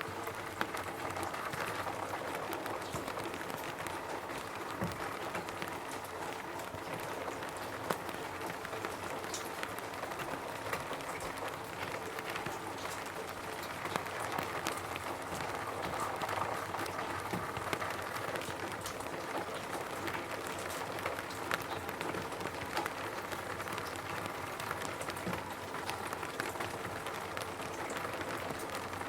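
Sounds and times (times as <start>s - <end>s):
rain on a roof: 0.0s - 29.0s.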